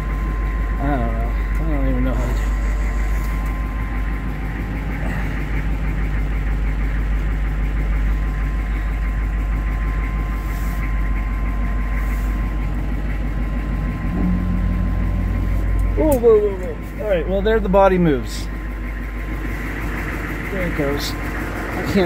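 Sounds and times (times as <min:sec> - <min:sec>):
thin steady whine: 0:00.0 - 0:22.0
truck engine idling: 0:00.0 - 0:22.0.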